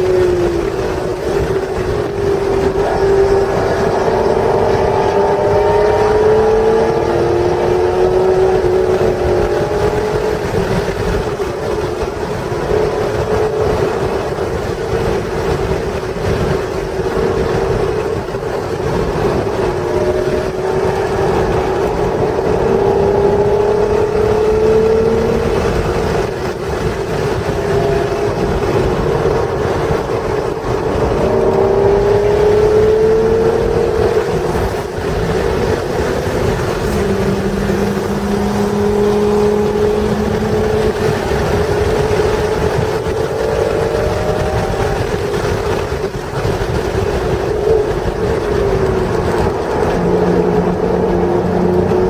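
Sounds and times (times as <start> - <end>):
car engine revving: 0.0 - 52.0
road and wind noise: 0.0 - 52.0.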